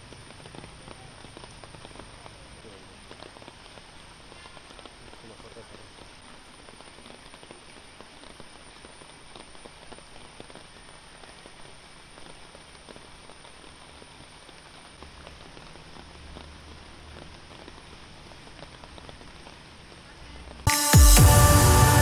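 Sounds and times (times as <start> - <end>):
rain falling on water and foliage: 0.0 - 20.8.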